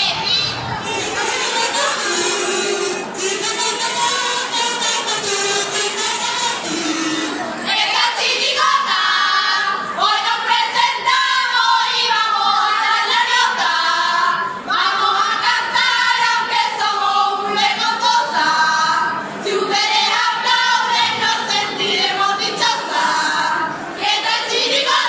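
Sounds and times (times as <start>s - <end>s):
women singing together: 0.0s - 25.0s.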